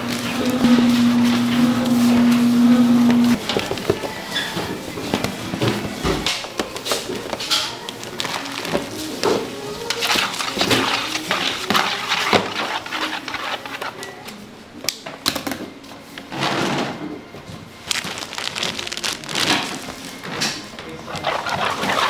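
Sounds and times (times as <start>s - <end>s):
rustling from food preparation: 0.0s - 14.5s, 17.3s - 22.0s.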